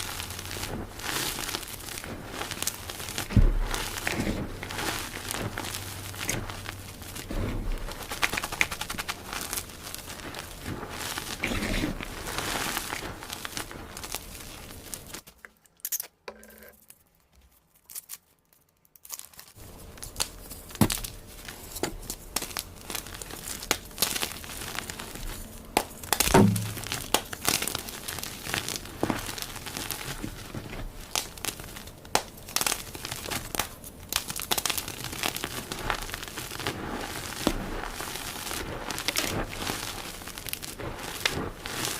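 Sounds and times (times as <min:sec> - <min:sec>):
chalk crunching and snapping: 0:00.0 - 0:15.7, 0:16.8 - 0:41.9.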